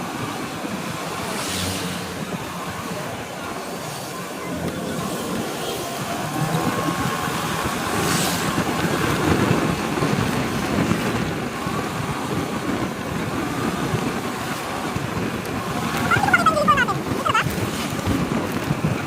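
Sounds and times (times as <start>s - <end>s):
road and traffic noise: 0.0s - 19.0s
wind rushing over microphone: 0.0s - 19.0s.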